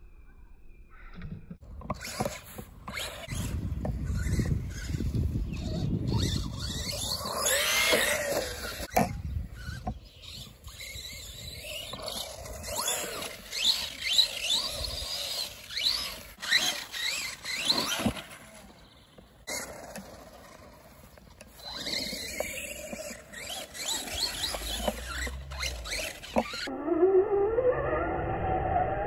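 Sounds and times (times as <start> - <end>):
toy truck electric motor whining: 1.8 - 28.8.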